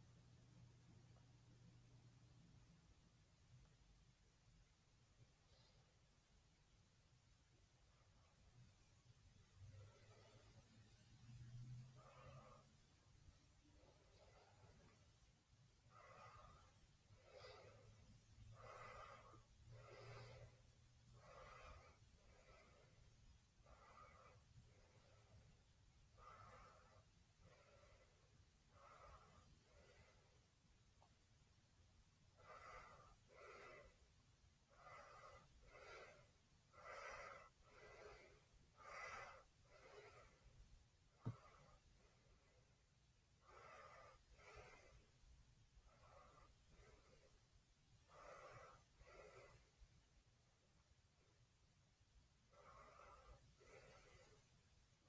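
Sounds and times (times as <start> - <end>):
soft breathing: 0.0 - 55.0.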